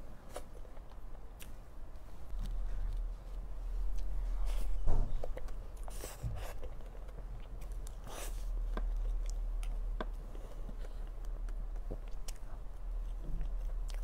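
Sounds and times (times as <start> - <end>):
wet chewing and mouth sounds: 0.2 - 14.0.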